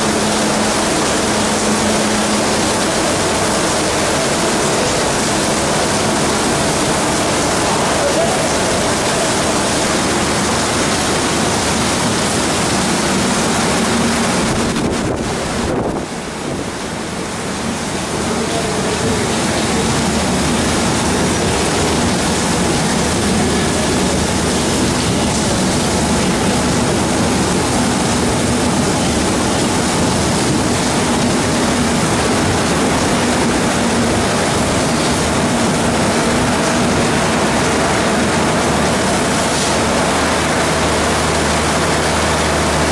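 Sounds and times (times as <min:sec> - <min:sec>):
heavy rain pouring on roofs: 0:00.0 - 0:42.9.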